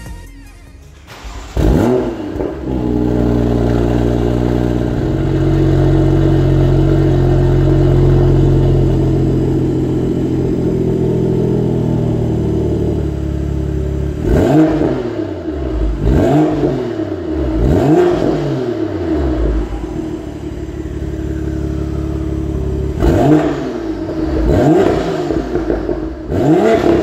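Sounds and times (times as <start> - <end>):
car engine starting and idling: 0.0 - 27.0.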